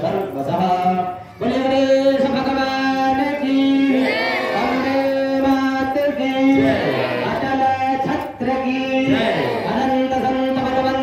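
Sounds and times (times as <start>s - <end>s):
voices chanting devotional song: 0.6s - 11.0s.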